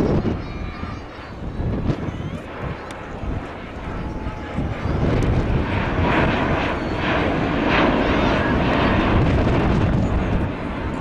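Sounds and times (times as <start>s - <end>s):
airliner passing low overhead: 0.0s - 11.0s.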